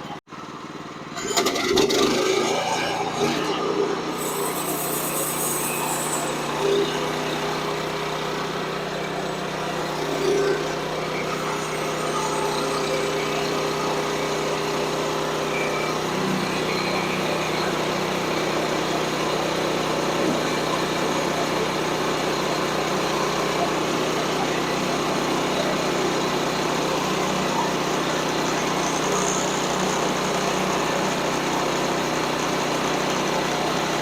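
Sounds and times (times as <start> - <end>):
band sawmill running: 0.0 - 34.0.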